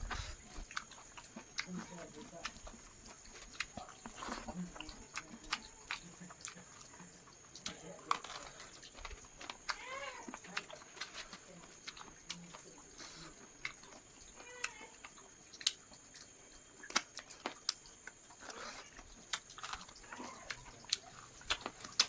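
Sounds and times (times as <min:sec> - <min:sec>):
chewing with wet mouth smacks: 0:00.0 - 0:22.0
crunchy chewing clicks: 0:00.0 - 0:22.0.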